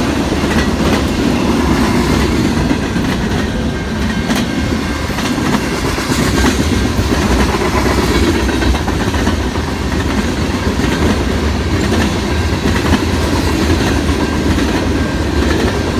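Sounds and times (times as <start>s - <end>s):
clickety-clack of train wheels: 0.0s - 15.9s
freight train rumbling past: 0.0s - 15.9s.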